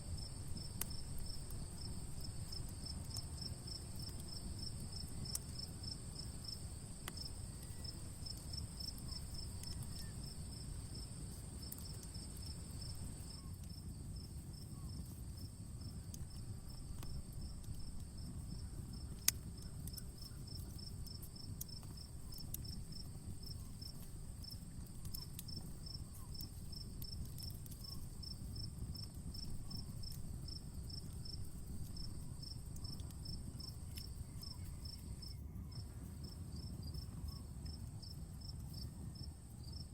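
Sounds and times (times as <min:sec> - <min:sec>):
campfire crackling and popping: 0:00.0 - 0:35.0
cricket chirping: 0:00.0 - 0:39.9.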